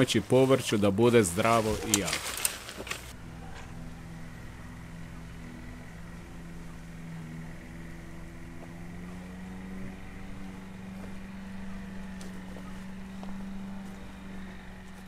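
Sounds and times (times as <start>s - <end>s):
motor humming: 1.4s - 15.0s.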